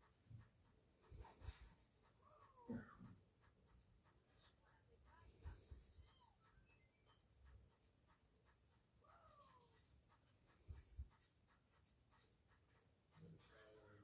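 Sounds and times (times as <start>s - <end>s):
faint rapid ticking: 0.0s - 14.0s.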